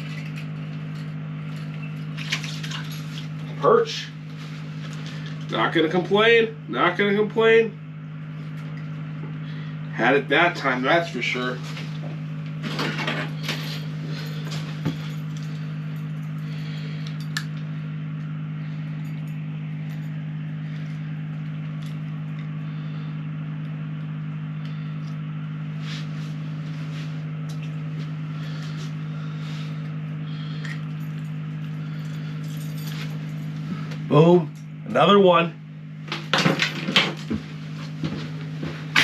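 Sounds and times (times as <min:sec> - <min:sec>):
motor humming: 0:00.0 - 0:39.0.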